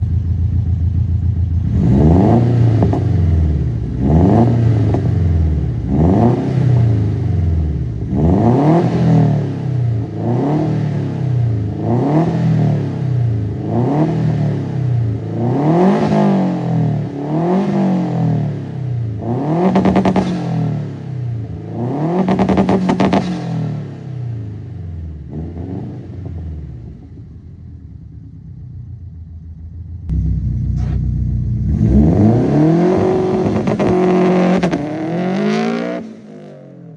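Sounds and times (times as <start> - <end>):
car engine revving: 1.6 - 27.4, 30.1 - 36.9.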